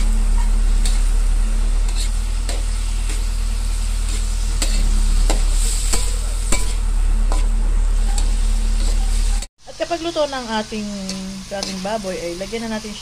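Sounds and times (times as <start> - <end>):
metal spatula scraping a pan: 0.0 - 9.5, 11.0 - 13.0
food sizzling in a wok: 0.0 - 13.0.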